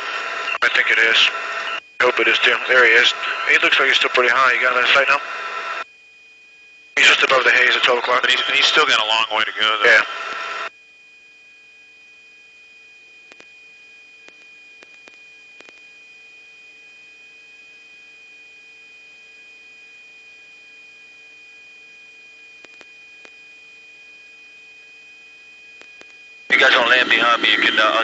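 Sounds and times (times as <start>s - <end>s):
electronic hum and whine: 0.0s - 28.0s.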